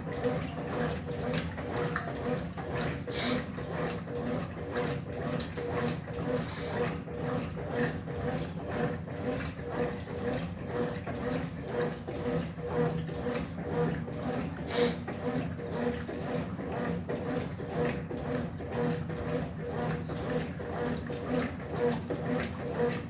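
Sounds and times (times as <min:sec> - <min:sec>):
washing machine motor humming: 0:00.0 - 0:23.0
water and clothes sloshing: 0:00.0 - 0:23.0.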